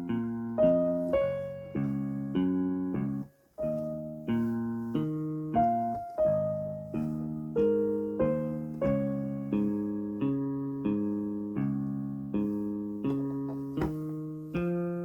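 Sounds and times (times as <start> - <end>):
keyboard guitar chords: 0.0 - 15.0
keyboard piano melody: 0.0 - 15.0.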